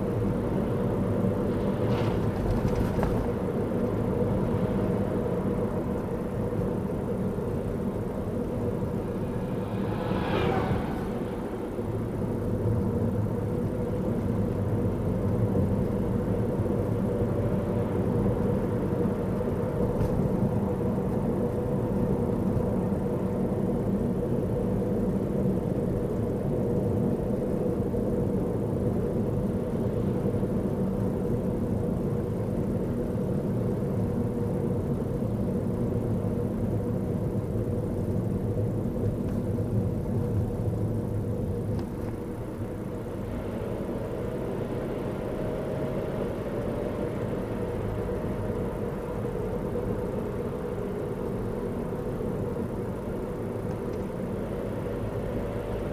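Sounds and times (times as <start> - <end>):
car engine and tyre noise: 0.0 - 55.9.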